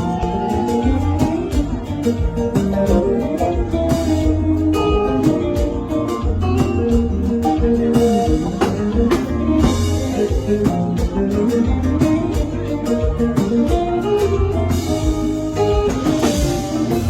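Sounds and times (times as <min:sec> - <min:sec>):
deep bass line: 0:00.0 - 0:17.0
lead guitar solo: 0:00.0 - 0:17.0
steady drum beat: 0:00.0 - 0:17.0.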